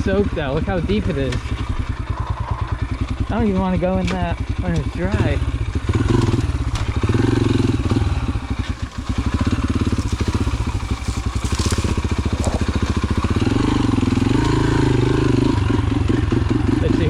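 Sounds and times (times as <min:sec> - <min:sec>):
motorcycle engine at low speed: 0:00.0 - 0:17.0.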